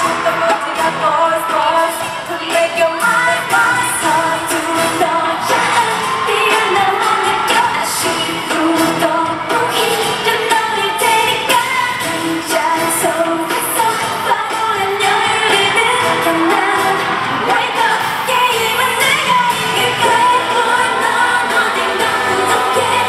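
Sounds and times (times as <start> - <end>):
pop backing track with beat: 0.0 - 23.0
women singing into microphones: 0.0 - 23.0.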